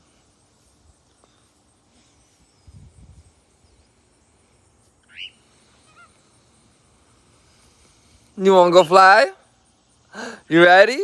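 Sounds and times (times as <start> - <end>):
bird chirping: 0.0 - 10.6.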